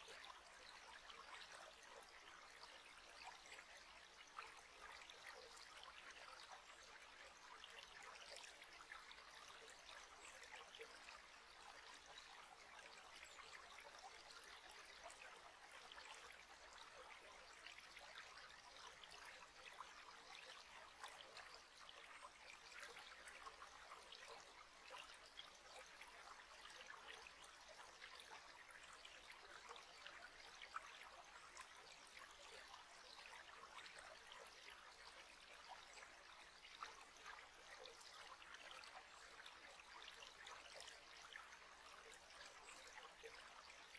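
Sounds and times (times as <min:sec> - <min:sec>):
stream trickling: 0:00.0 - 0:43.9.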